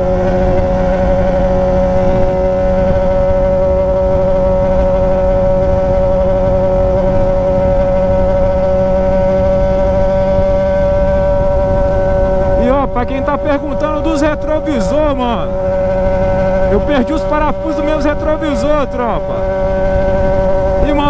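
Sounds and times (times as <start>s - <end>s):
motorcycle engine at steady revs: 0.0s - 21.0s.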